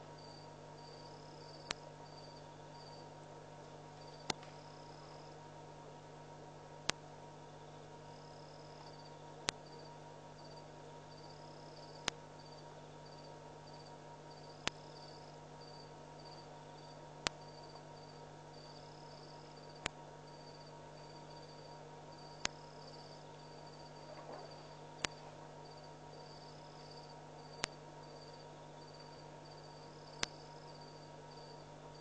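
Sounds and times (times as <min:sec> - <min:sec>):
steady low hum: 0:00.0 - 0:32.0
insects trilling: 0:00.2 - 0:03.1, 0:04.0 - 0:05.4, 0:08.0 - 0:32.0.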